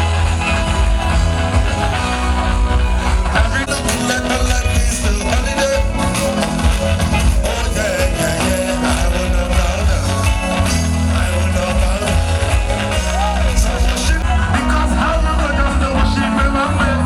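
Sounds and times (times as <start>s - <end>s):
pop music with singing: 0.0s - 17.0s.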